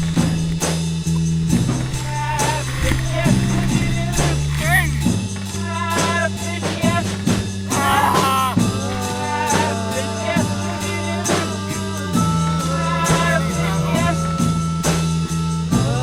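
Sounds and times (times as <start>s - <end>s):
held bass notes: 0.0s - 16.0s
steady drum beat: 0.0s - 16.0s.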